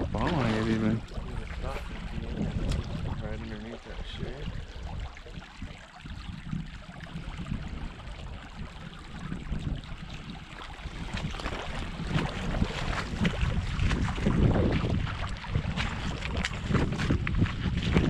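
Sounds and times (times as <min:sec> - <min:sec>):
creek water running: 0:00.0 - 0:18.0
wind buffeting microphone: 0:00.0 - 0:18.0.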